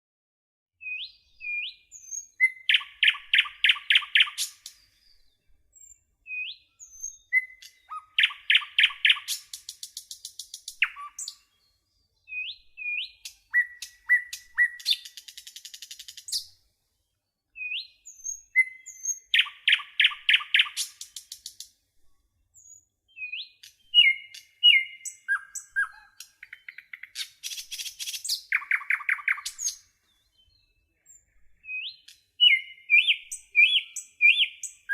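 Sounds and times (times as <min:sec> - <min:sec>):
songbird singing: 0:00.8 - 0:34.9.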